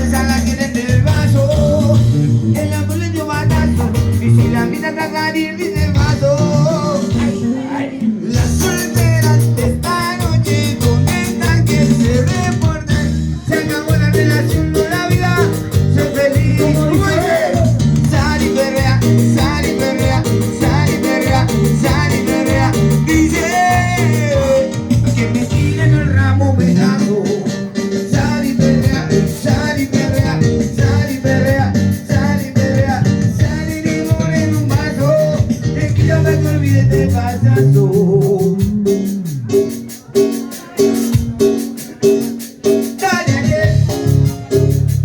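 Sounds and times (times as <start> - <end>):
person singing: 0.0 - 44.8
latin music with bass beat: 0.0 - 45.0.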